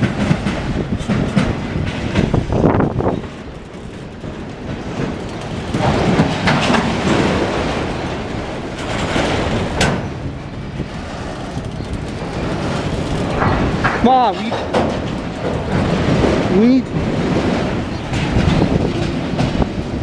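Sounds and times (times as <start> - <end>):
freight train wheels rumbling: 0.0 - 20.0
sharp train clanks: 0.0 - 20.0.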